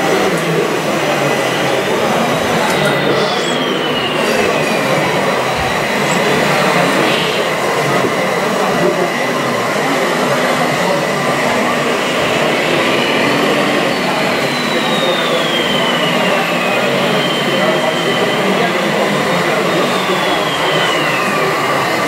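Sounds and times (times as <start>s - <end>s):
thin high whine: 0.1s - 22.0s.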